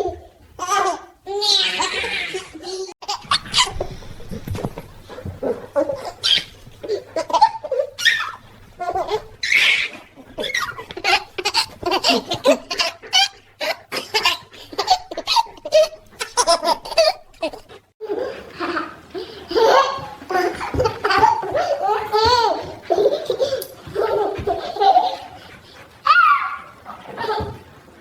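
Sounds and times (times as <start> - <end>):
baby giggling: 0.0 - 25.4.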